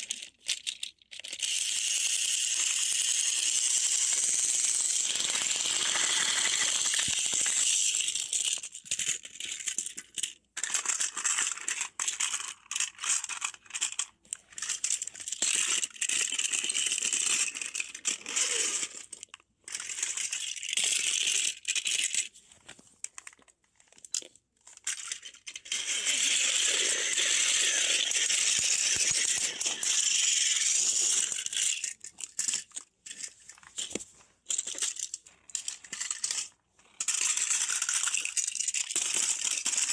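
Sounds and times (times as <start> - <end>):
toy train motor whirring: 0.0 - 22.3, 24.8 - 39.9.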